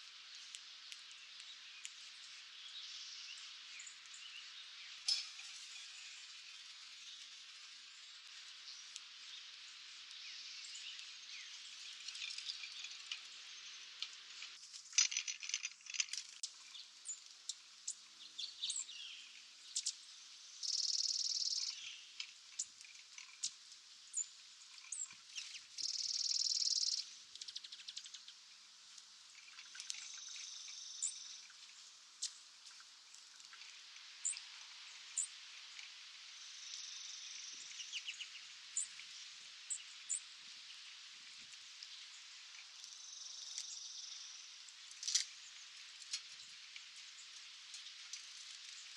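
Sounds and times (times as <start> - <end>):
faint steady hiss: 0.0 - 48.9
small birds chirping: 0.0 - 48.9.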